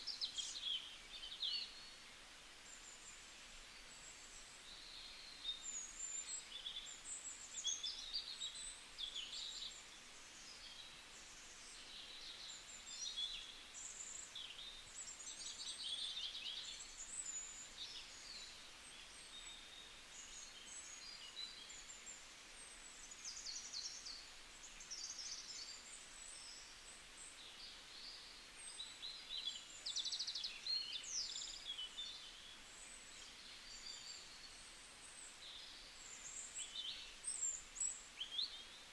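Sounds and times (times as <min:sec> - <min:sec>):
faint background hiss: 0:00.0 - 0:38.9
small birds chirping: 0:00.0 - 0:38.9.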